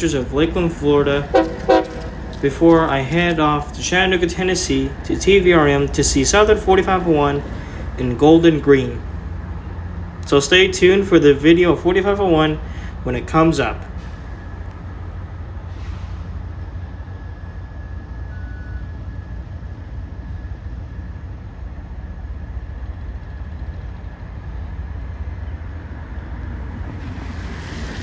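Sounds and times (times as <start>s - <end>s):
diesel locomotive rumble: 0.0s - 28.0s.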